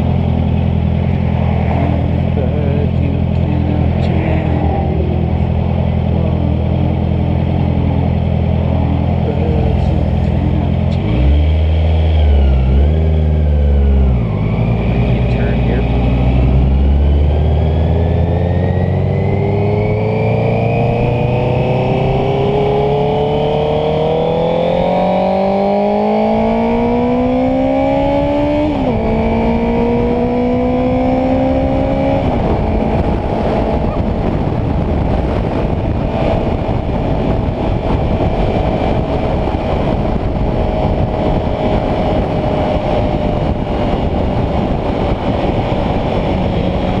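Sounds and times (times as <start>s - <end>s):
motorcycle engine accelerating: 0.0s - 47.0s
wind noise on microphone: 0.0s - 47.0s.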